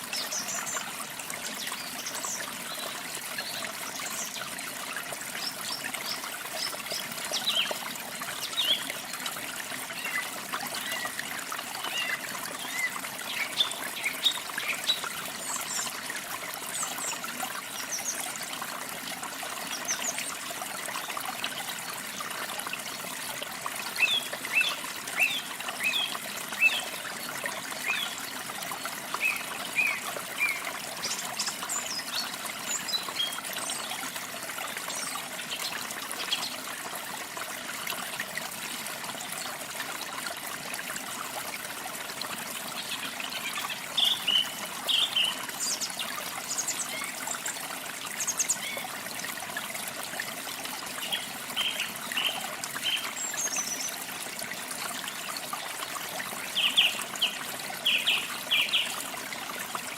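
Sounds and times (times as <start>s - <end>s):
trickle of running water: 0.0s - 59.9s.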